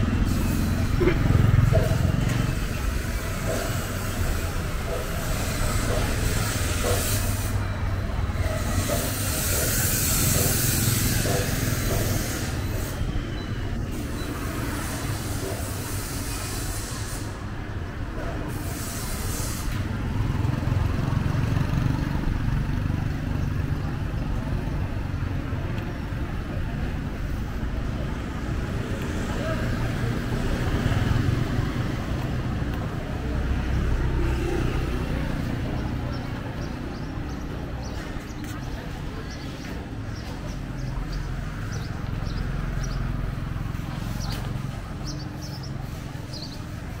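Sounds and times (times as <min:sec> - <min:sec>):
motor traffic: 0:00.0 - 0:47.0
voices in background: 0:04.3 - 0:47.0.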